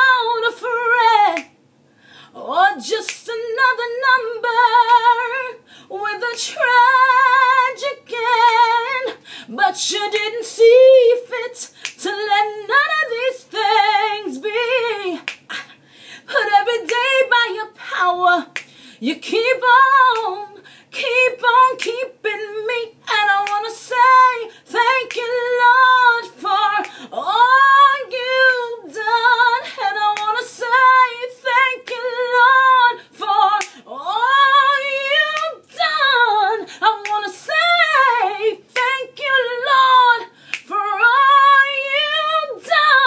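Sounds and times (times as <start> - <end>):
woman singing gospel unaccompanied: 0.0 - 1.6, 2.2 - 43.0.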